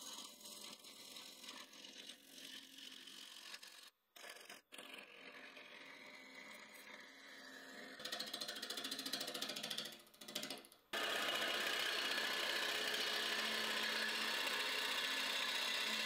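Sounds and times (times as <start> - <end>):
wood lathe cutting: 0.0 - 3.8, 4.4 - 10.4, 11.0 - 16.0.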